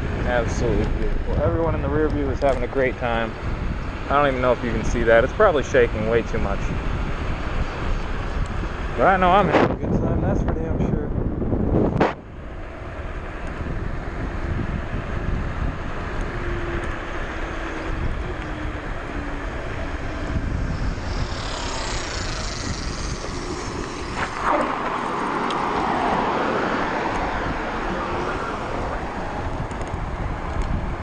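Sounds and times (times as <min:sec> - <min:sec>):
tyre and motor noise: 0:00.0 - 0:31.0
wind rushing over microphone: 0:00.0 - 0:31.0.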